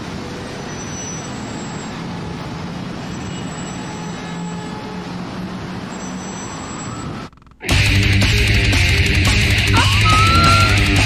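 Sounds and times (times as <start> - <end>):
street traffic roar: 0.0 - 11.0.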